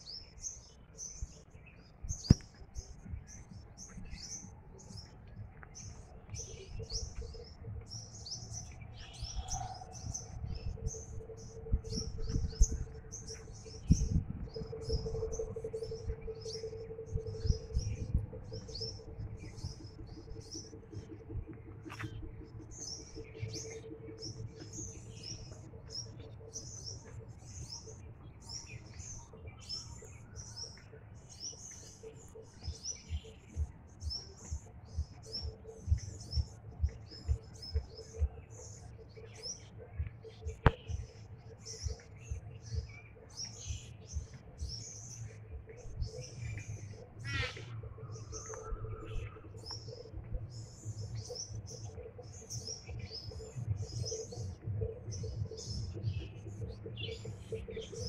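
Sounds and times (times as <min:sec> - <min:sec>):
faint steady hum: 0:00.0 - 0:58.0
small birds chirping: 0:00.0 - 0:58.0
low rumble: 0:01.0 - 0:58.0.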